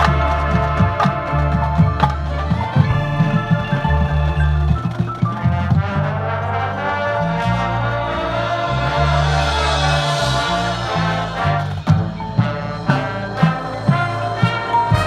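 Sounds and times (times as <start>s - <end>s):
drum and percussion hits: 0.0s - 6.3s, 7.5s - 15.0s
marching band brass chords: 0.0s - 15.0s.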